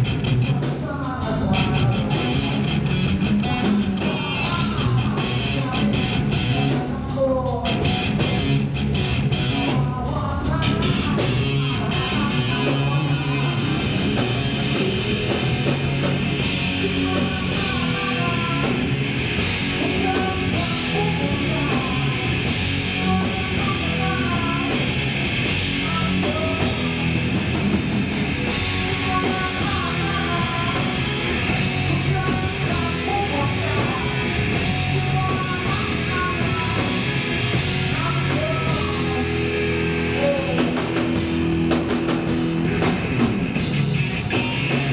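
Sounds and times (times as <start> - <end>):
distorted electric guitar: 0.0 - 44.9
drums: 0.0 - 44.9.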